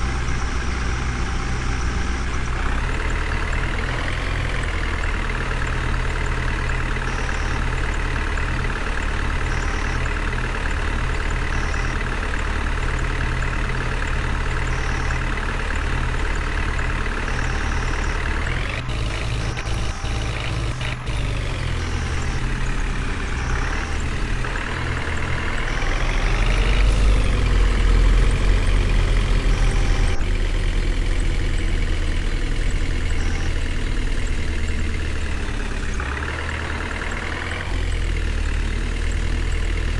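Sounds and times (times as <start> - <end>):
heavy vehicle engine idling and revving: 0.0 - 39.9.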